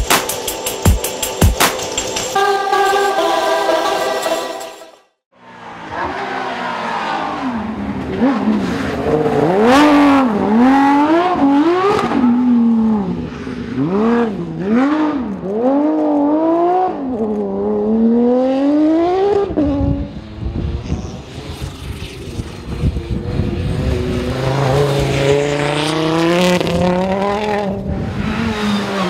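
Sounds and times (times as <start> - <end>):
rally car engine revving: 5.5 - 29.0.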